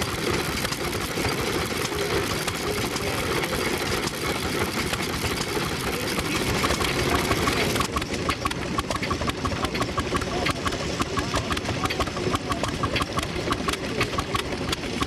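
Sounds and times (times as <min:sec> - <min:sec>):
machinery clattering: 0:00.0 - 0:15.0.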